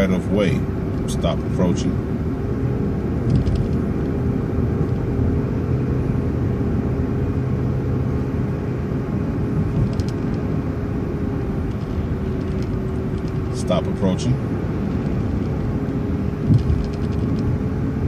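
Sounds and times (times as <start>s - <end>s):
bus engine and road rumble: 0.0s - 18.0s
faint steady whine: 0.0s - 18.0s.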